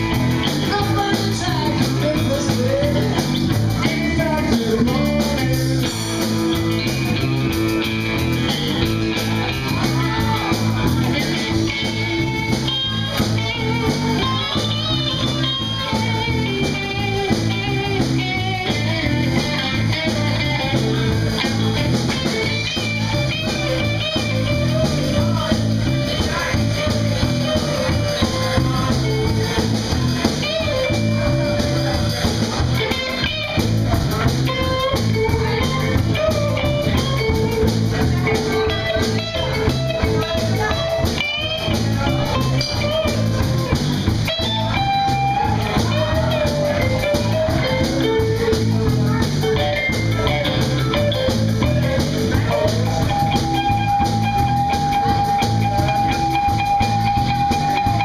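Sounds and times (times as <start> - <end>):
drum kit steady rhythm: 0.0 - 58.0
electric bass: 0.0 - 58.0
electric guitar lead lines: 0.0 - 58.0.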